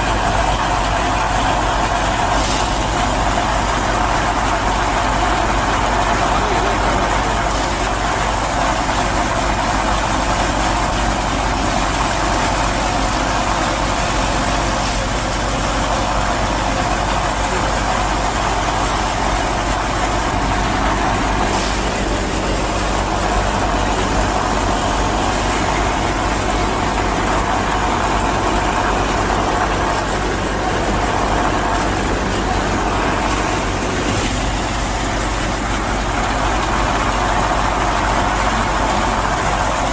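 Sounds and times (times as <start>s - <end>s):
motor humming steadily: 0.0s - 39.9s.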